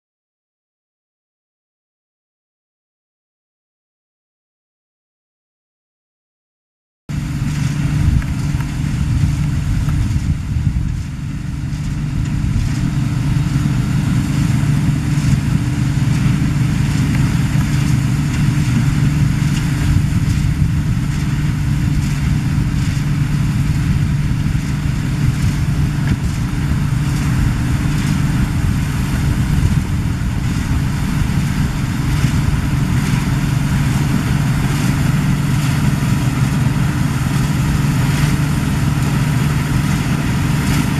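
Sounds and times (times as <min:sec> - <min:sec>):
combine harvester droning: 0:07.1 - 0:40.9.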